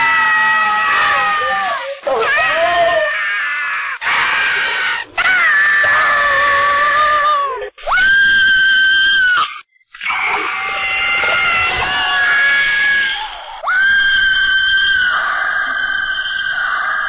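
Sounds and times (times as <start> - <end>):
cartoon squirrel screaming: 0.0 - 7.3, 7.9 - 17.0.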